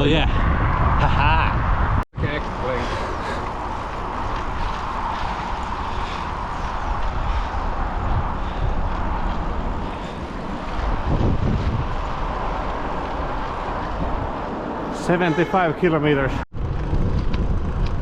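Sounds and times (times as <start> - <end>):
wind and road noise from bicycle: 0.0 - 18.0.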